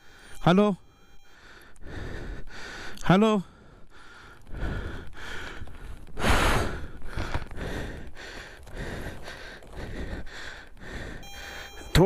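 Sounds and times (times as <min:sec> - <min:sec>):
man panting: 0:00.0 - 0:00.4, 0:01.3 - 0:11.9
loud gasping breath: 0:01.3 - 0:11.9.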